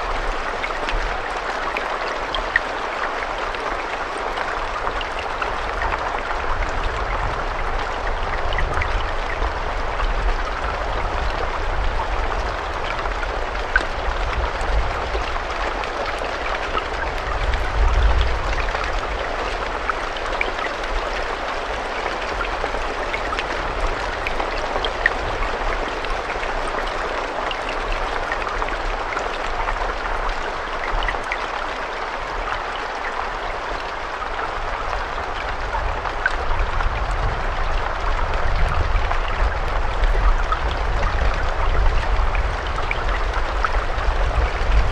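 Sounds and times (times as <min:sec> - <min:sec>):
raindrops ticking: 0:00.0 - 0:44.9
steady rain hiss: 0:00.0 - 0:44.9.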